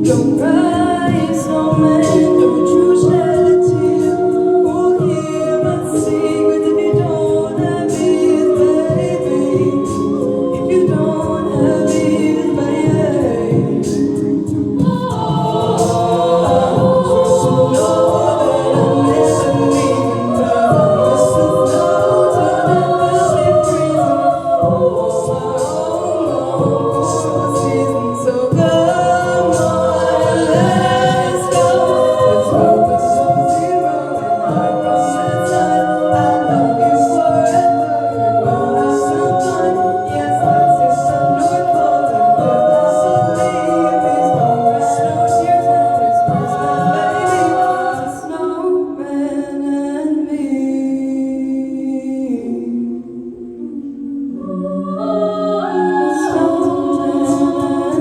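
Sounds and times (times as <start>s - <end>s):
percussive vocal beat: 0.0s - 58.0s
vocal ensemble singing in harmony: 0.0s - 58.0s.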